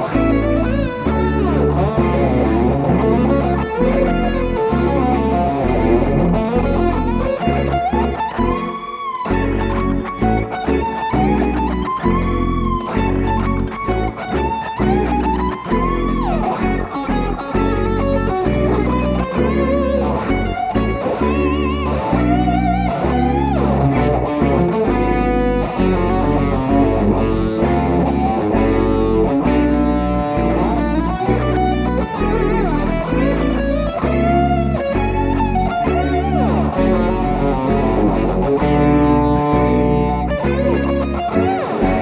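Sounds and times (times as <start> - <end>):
electric guitar lead: 0.0 - 42.0
low bass notes: 0.0 - 42.0.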